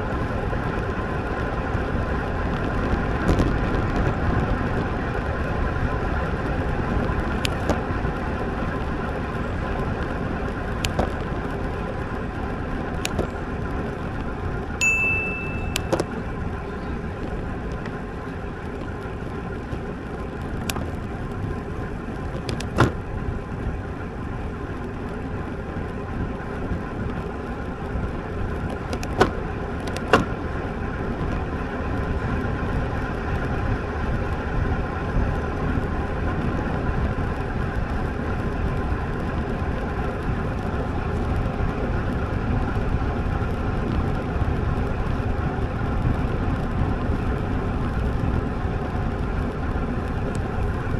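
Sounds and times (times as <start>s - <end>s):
bicycle tyre noise: 0.0s - 50.9s
rushing wind: 0.0s - 50.9s.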